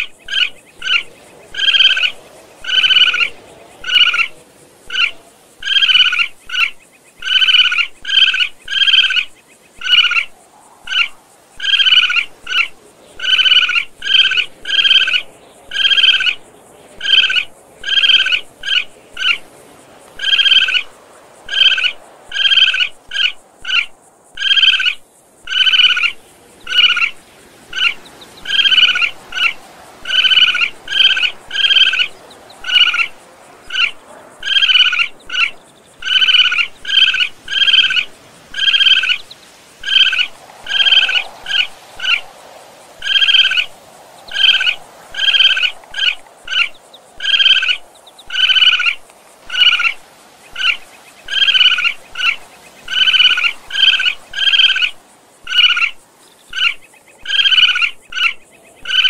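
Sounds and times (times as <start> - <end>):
raccoon chittering: 0.0 - 19.5, 20.1 - 20.9, 21.5 - 42.3, 43.0 - 43.7, 44.3 - 59.0.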